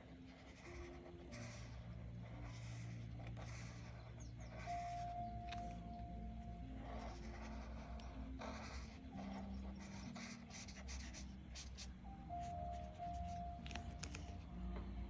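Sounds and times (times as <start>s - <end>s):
coloring strokes on paper: 0.0s - 14.5s.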